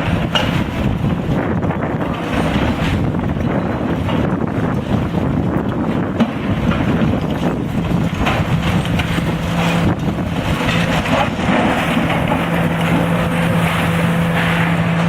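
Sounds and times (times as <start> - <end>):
diesel engine humming: 0.0 - 15.0
wind buffeting microphone: 0.0 - 15.0.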